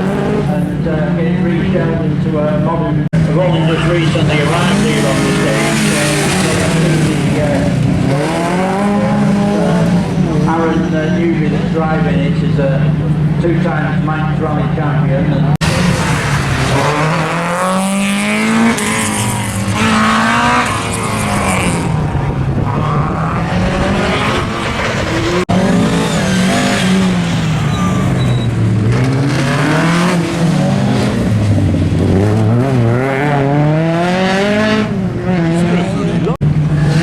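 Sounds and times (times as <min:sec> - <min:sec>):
rally car engine revving hard: 0:00.0 - 0:14.8, 0:15.4 - 0:37.0.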